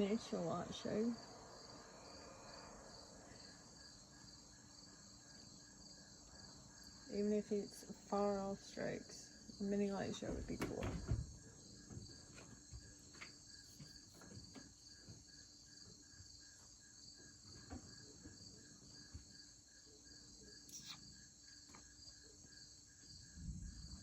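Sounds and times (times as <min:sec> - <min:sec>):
crickets chirping: 0:00.0 - 0:24.0
high insect hum: 0:00.0 - 0:24.0.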